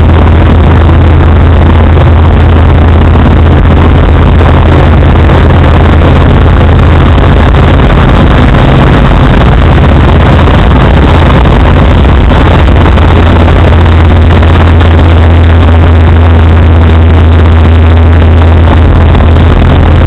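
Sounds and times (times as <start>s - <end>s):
aircraft engine and propeller drone: 0.0s - 20.0s
rushing airflow: 0.0s - 20.0s.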